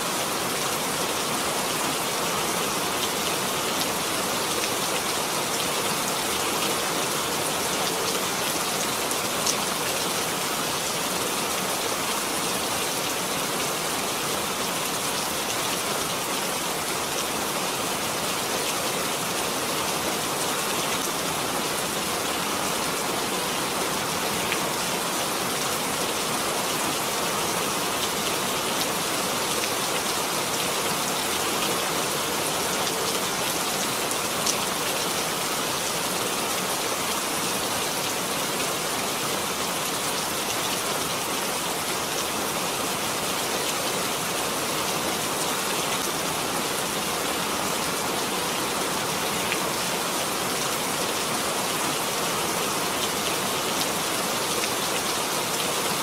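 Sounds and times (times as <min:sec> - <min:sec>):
rain pattering on surfaces: 0:00.2 - 0:56.0.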